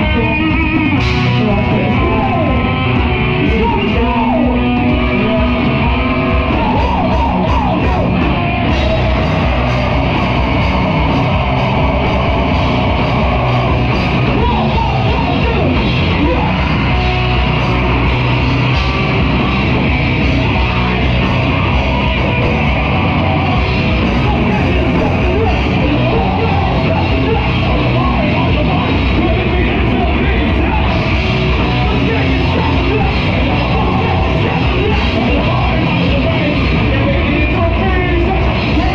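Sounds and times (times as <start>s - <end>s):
singer yelling into microphone: 0.0s - 2.8s, 3.4s - 18.1s, 18.8s - 38.9s
heavy rock band playing: 0.0s - 38.9s.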